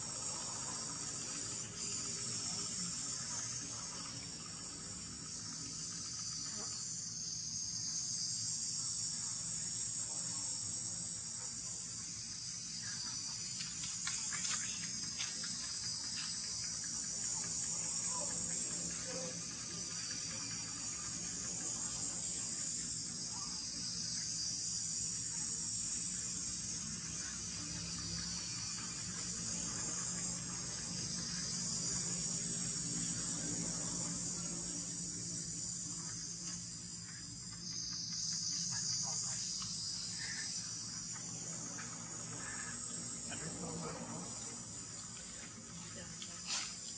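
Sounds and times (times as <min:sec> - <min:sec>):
insects shrilling: 0:00.0 - 0:46.9.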